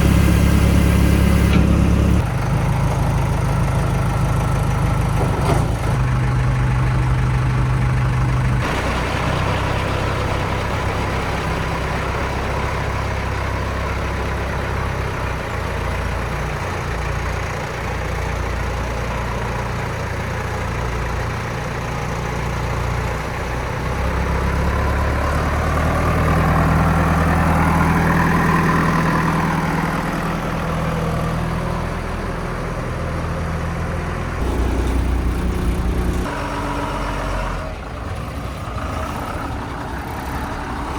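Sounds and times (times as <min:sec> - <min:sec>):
backhoe diesel engine working: 0:00.0 - 0:40.9.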